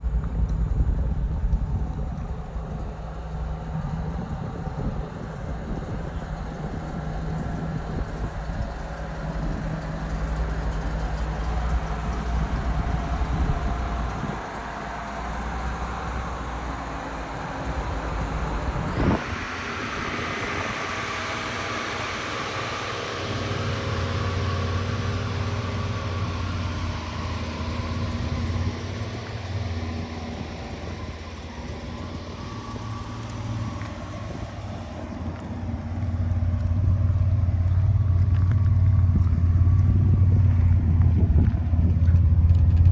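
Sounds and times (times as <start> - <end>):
car engine droning: 0.0 - 42.9.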